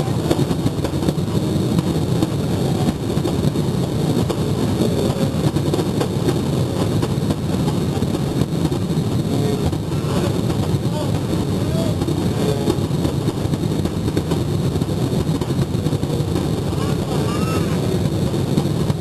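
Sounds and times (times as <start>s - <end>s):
fireworks booming and cracking: 0.0s - 19.0s.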